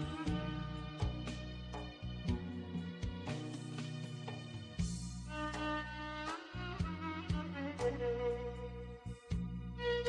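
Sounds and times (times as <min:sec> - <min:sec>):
instrumental music with drone: 0:00.0 - 0:10.0.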